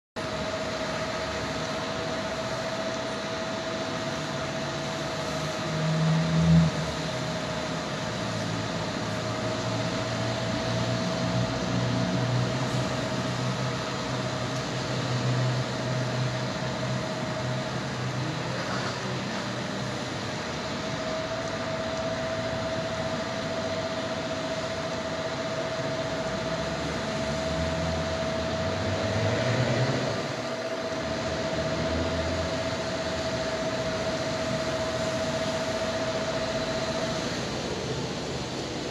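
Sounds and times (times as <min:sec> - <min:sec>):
steady high hum: 0:00.2 - 0:38.9
truck engine and pump running: 0:00.2 - 0:38.9.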